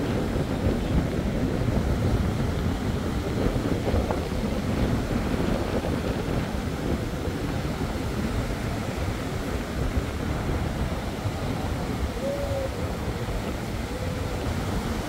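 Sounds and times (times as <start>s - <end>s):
breaking surf: 0.0s - 15.0s
wind buffeting microphone: 0.0s - 15.0s.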